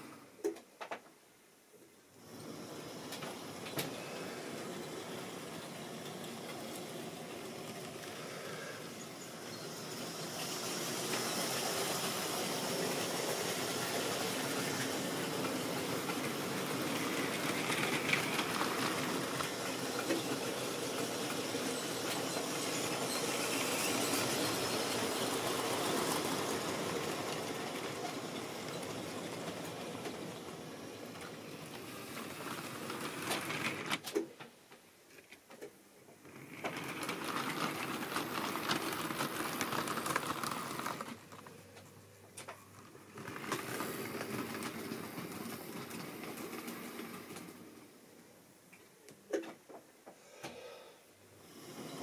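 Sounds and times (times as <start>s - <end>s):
model train motor whirring: 2.2s - 34.0s, 36.2s - 41.4s, 43.1s - 47.9s.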